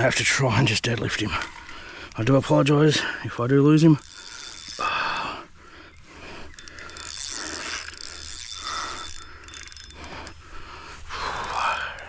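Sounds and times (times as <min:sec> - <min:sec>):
fishing reel ratcheting: 0:00.8 - 0:12.0.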